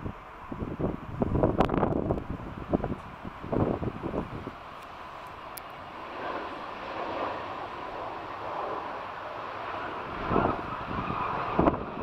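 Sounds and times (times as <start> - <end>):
distant jet engine rumble: 0.0 - 12.0
wind buffeting microphone: 0.0 - 12.0.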